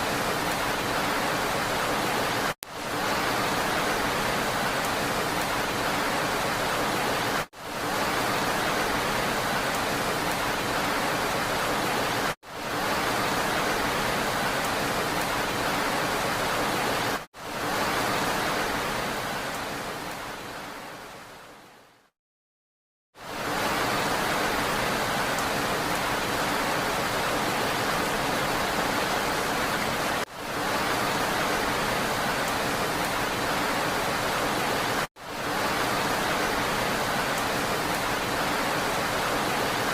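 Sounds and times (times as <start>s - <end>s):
steady rain hiss: 0.0s - 22.1s, 23.2s - 39.9s.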